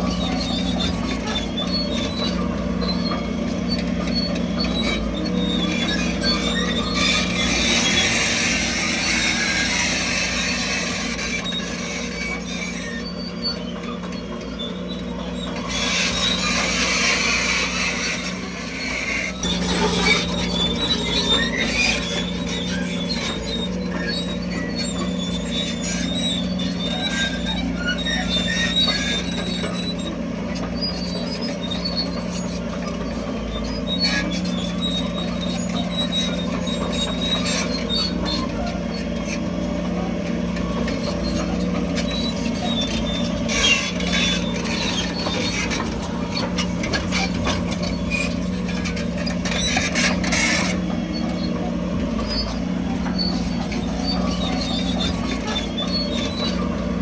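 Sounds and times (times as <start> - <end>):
bulldozer diesel engine running: 0.0 - 57.0
steel tracks squealing: 0.0 - 57.0.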